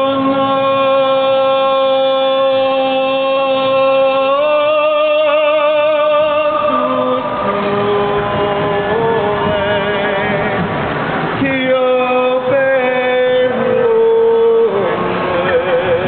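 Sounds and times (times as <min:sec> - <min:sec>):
noisy background: 0:00.0 - 0:16.0
person singing unaccompanied: 0:00.0 - 0:16.0.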